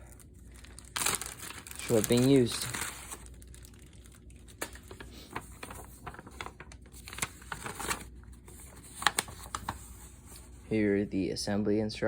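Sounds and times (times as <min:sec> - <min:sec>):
paper crinkling and rustling: 0:00.0 - 0:10.7.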